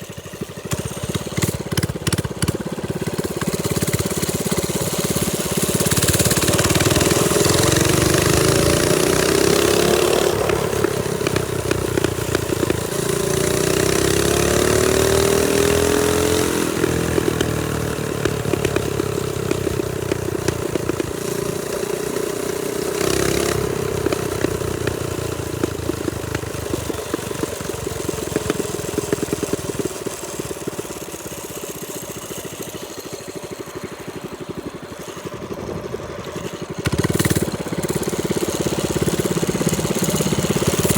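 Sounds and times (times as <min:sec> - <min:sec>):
small motorbike engine revving: 0:00.0 - 0:40.9.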